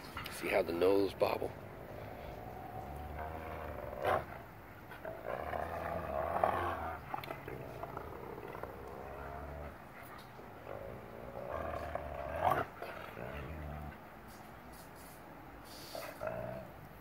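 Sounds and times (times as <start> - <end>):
dogs growling: 0.0 - 14.2, 15.9 - 17.0.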